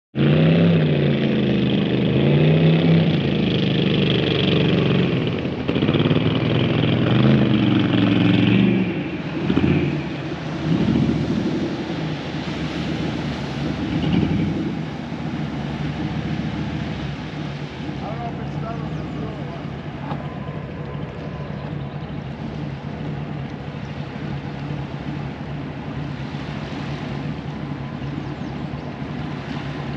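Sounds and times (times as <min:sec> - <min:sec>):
engine running: 0:00.2 - 0:29.9.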